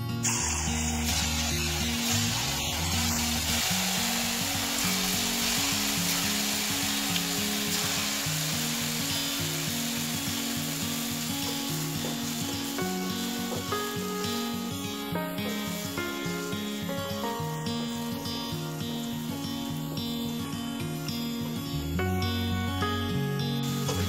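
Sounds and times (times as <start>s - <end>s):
background music: 0.0s - 24.0s
food deep-frying in oil: 0.2s - 19.9s.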